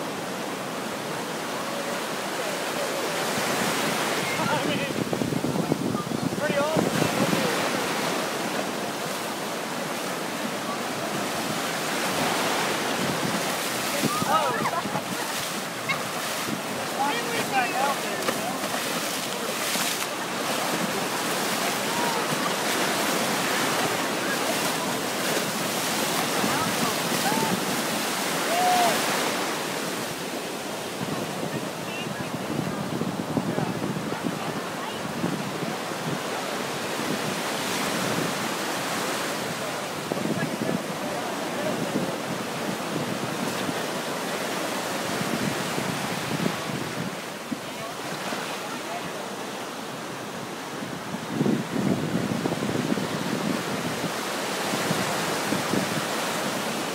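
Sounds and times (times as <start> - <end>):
surf rushing and splashing: 0.0 - 56.9
waves breaking: 0.0 - 56.9.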